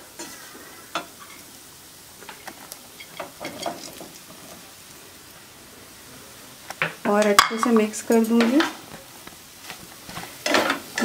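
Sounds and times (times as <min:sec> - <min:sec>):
faint frying hiss: 0:00.0 - 0:11.0.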